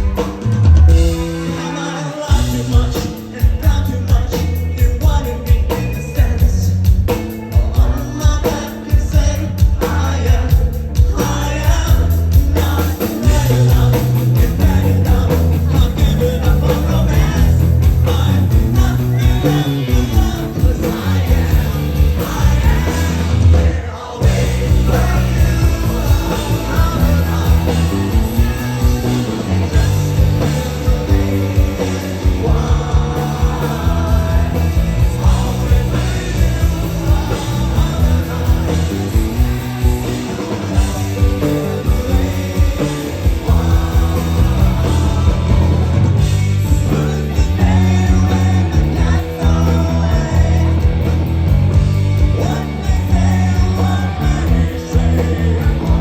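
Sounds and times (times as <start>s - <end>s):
person singing: 0.0s - 51.2s, 52.2s - 56.0s
rock band playing live: 0.0s - 56.0s.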